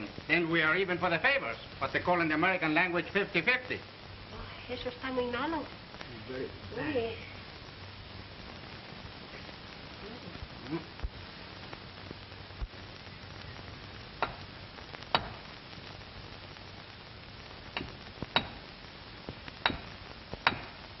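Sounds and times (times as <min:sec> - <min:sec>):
film soundtrack hiss: 0:00.0 - 0:21.0.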